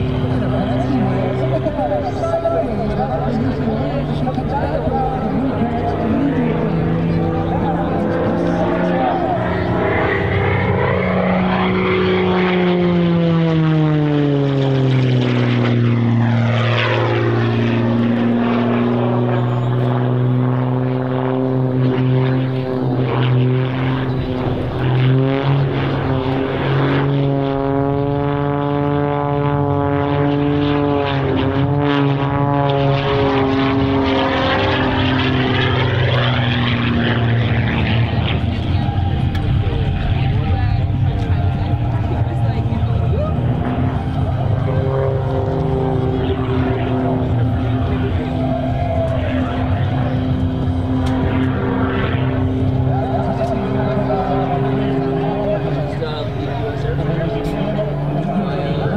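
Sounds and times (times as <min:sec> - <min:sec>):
propeller plane engine: 0:00.0 - 0:58.9.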